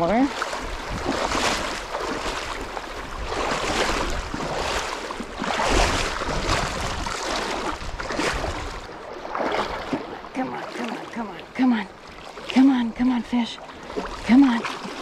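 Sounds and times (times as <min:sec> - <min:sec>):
boots splashing through stream: 0:00.0 - 0:15.0
rushing water: 0:00.0 - 0:15.0.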